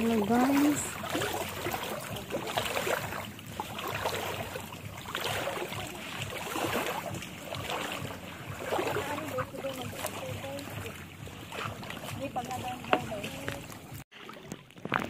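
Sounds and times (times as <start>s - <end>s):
feet wading through shallow water: 0.0s - 15.0s.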